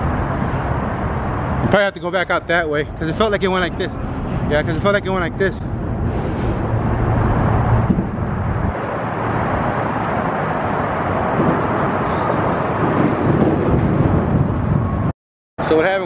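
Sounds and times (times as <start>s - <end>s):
engine rumble: 0.0s - 15.1s.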